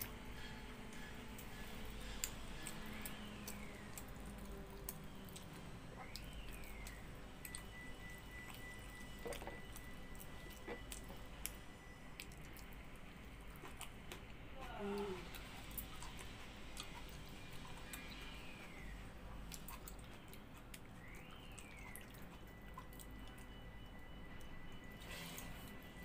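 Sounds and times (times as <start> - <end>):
chewing wet rice: 0.0 - 26.0.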